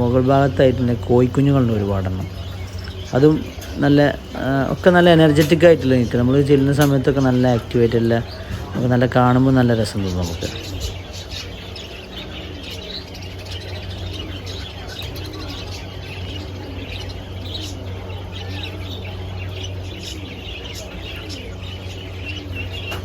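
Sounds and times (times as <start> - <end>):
caged birds chirping: 0.0 - 23.0
low bird calls: 0.0 - 23.0
steady low hum: 0.0 - 23.0.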